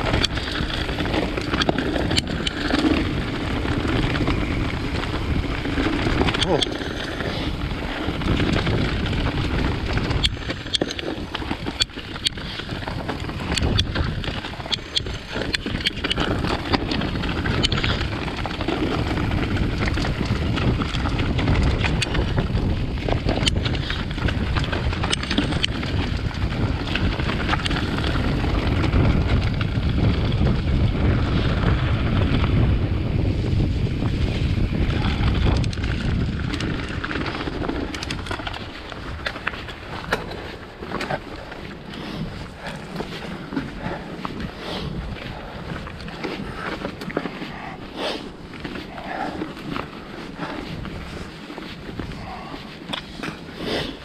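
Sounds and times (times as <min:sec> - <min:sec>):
bike clicks and rattles: 0:00.0 - 0:54.0
wind buffeting microphone: 0:00.0 - 0:54.0.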